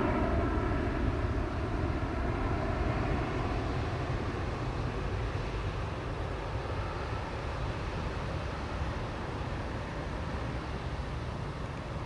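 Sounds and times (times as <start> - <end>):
jet engines climbing: 0.0 - 12.0.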